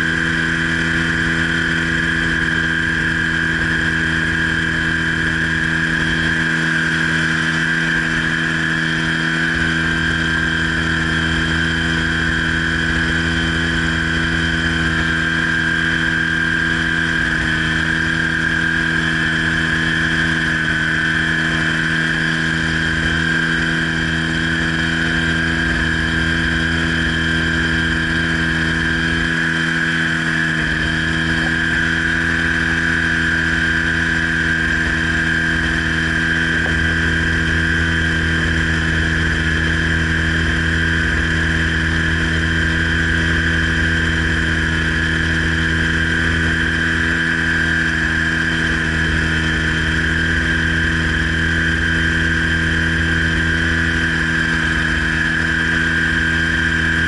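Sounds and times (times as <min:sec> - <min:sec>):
microlight engine and propeller: 0:00.0 - 0:57.0.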